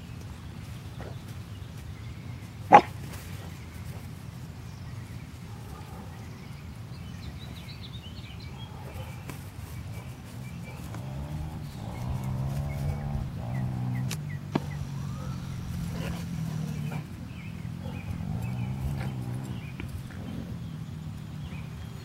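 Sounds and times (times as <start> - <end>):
low outdoor background noise: 0.0 - 22.0.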